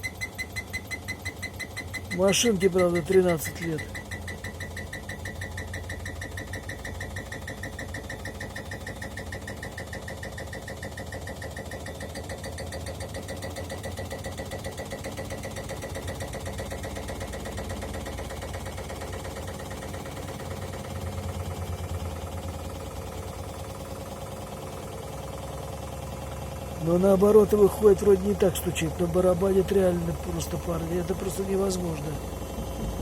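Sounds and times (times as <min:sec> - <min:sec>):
washing machine spinning: 0:00.0 - 0:33.0.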